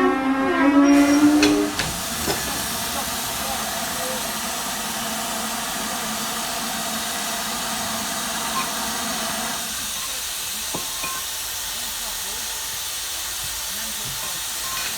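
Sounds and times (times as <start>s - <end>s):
steam hiss: 0.9s - 14.9s.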